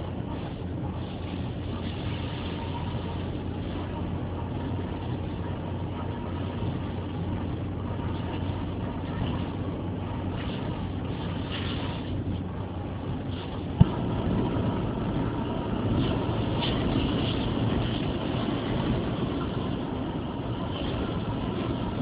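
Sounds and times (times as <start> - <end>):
noisy hiss: 0.0 - 22.0
vehicle engine humming: 0.0 - 22.0.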